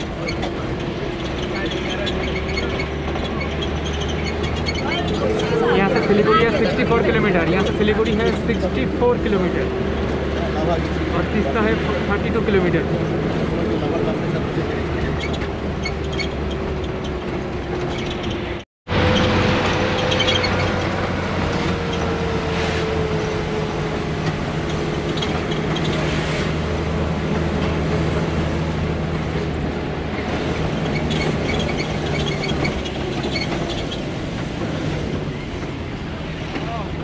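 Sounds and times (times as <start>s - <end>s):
bus engine running: 0.0s - 37.0s.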